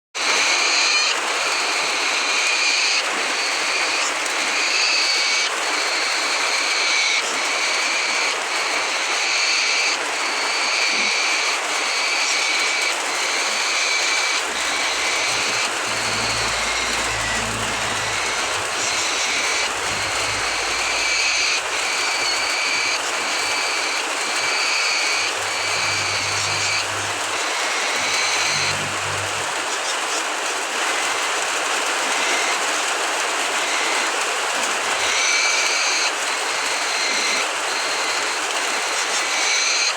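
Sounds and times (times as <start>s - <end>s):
cockatoo harsh rasping call: 0.2s - 31.3s, 33.5s - 39.9s.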